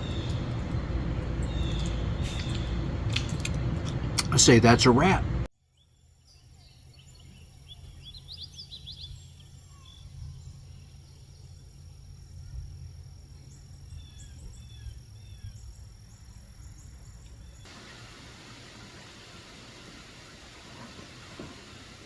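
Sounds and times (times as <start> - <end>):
small birds chirping: 0.0 - 4.2, 5.7 - 19.4.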